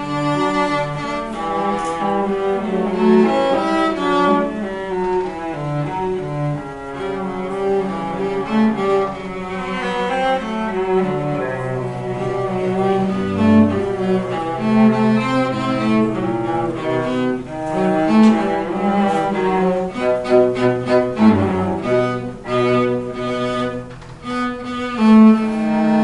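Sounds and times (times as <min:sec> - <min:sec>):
cello melody: 0:00.0 - 0:26.0
low bowed cello: 0:00.0 - 0:26.0.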